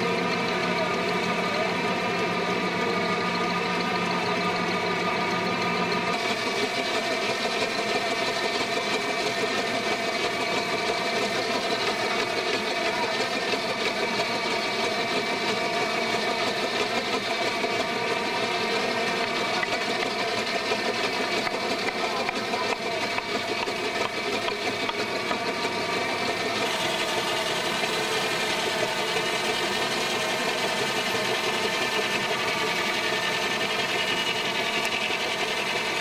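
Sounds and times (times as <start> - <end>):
sawmill machinery humming and whining: 0.0 - 36.0.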